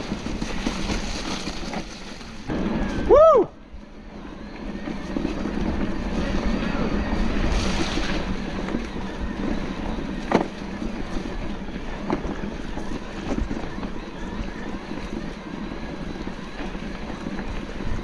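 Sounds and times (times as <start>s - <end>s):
tyres rolling on trail: 0.0s - 18.0s.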